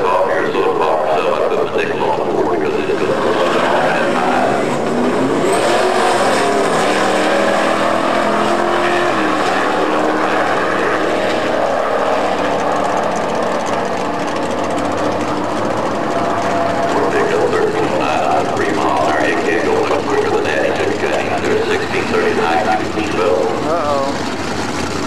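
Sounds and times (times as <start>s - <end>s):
drag race engines at full throttle: 0.0s - 25.0s.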